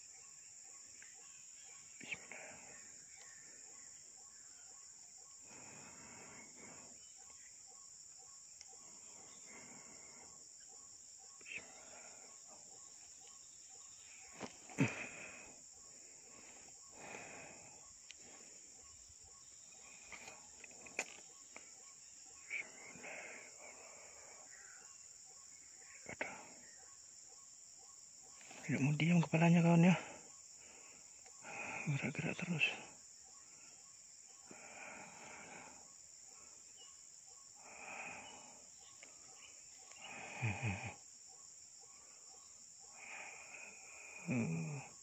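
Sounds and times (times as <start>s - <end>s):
crickets and insects droning: 0.0s - 45.0s.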